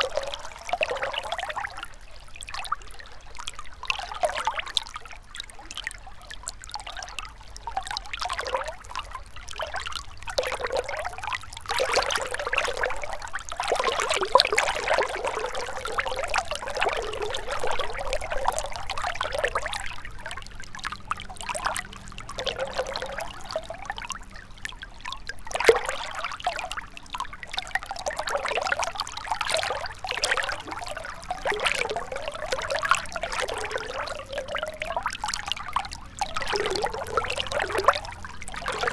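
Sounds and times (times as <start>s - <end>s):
river flowing and gurgling: 0.0s - 38.9s.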